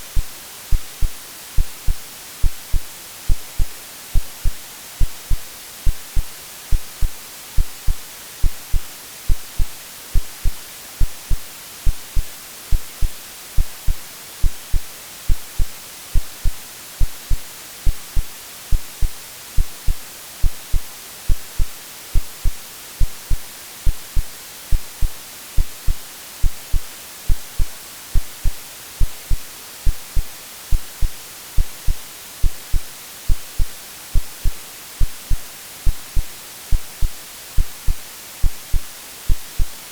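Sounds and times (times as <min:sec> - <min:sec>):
heartbeat thumps: 0:00.0 - 0:39.8
white noise hiss: 0:00.0 - 0:39.9.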